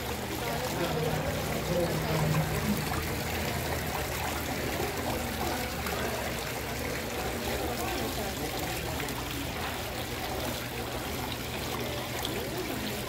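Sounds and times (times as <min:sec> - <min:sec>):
fountain water trickling: 0:00.0 - 0:13.0.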